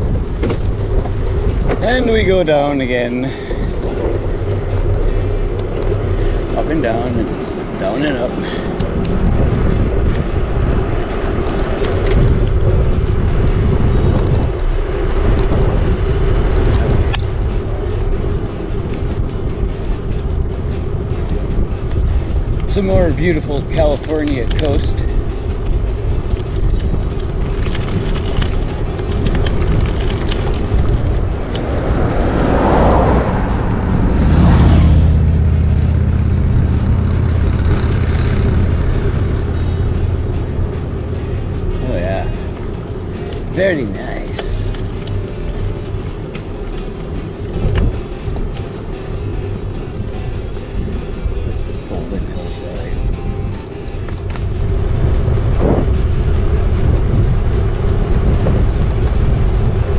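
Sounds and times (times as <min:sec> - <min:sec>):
bicycle tyre and road noise: 0:00.0 - 0:59.9
low engine hum: 0:00.0 - 0:59.9
vehicle passing: 0:00.0 - 0:59.9
wind rumbling on microphone: 0:00.0 - 0:59.9.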